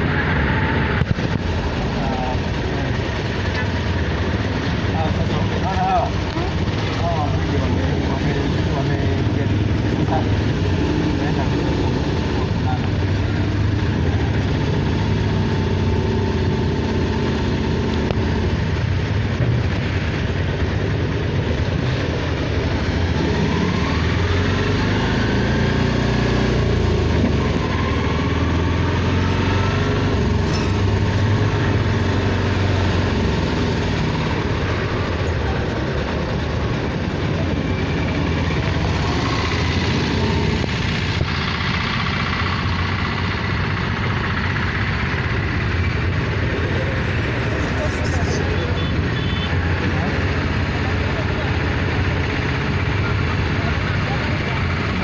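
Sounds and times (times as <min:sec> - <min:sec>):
street traffic noise: 0:00.0 - 0:55.0
vehicle engine running: 0:00.0 - 0:55.0.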